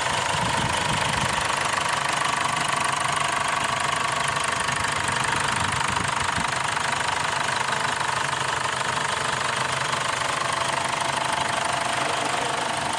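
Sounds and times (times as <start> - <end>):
pickup engine running: 0.0 - 12.9.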